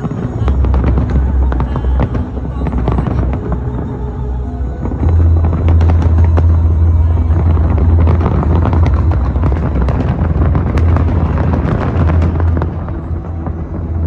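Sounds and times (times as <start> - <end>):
fireworks bangs and pops: 0.0 - 14.0
low rumble: 0.0 - 14.0.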